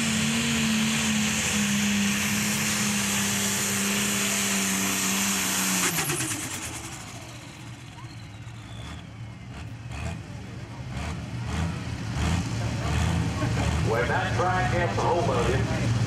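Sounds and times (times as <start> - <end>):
diesel engine running flat out: 0.0 - 16.0.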